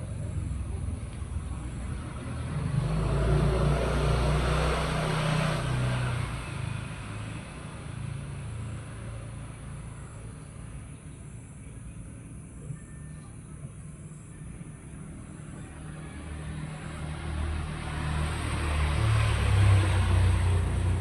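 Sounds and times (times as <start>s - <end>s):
vehicle engine passing by: 0.0s - 11.4s, 14.1s - 21.0s.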